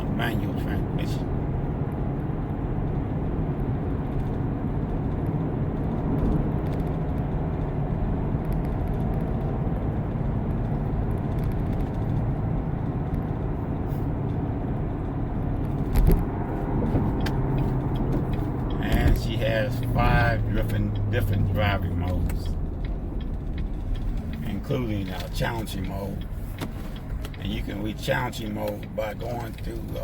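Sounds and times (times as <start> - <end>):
car engine and road drone: 0.0 - 30.0.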